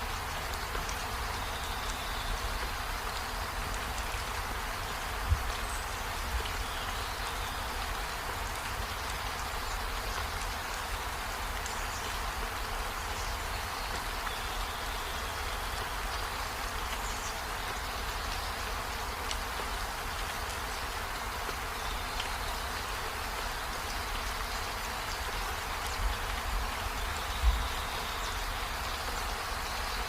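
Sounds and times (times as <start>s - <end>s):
rain on leaves and window: 0.0s - 30.0s.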